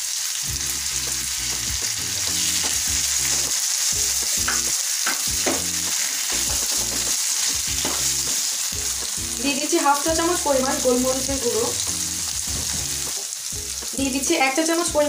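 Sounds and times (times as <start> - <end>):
chicken frying in a pan: 0.0 - 15.0.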